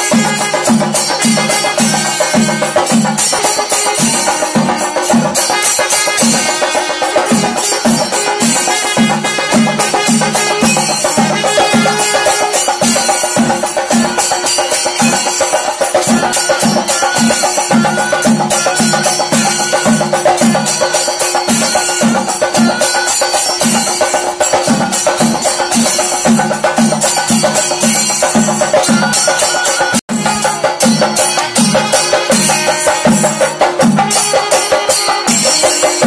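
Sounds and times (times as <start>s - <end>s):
hand cymbals clashing: 0.0s - 36.0s.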